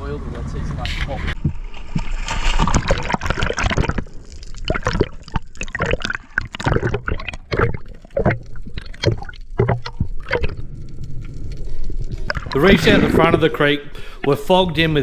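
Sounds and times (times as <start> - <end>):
water splashing and gurgling: 0.9 - 14.6.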